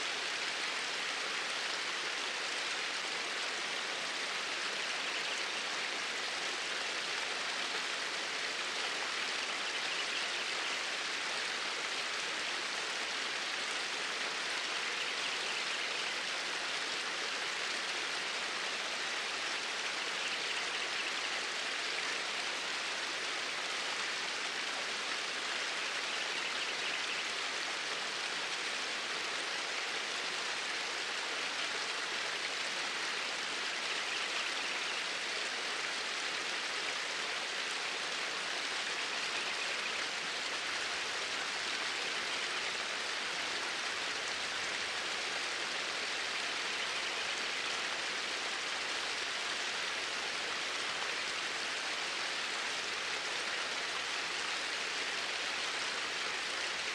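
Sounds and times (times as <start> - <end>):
water flowing: 0.0 - 56.9.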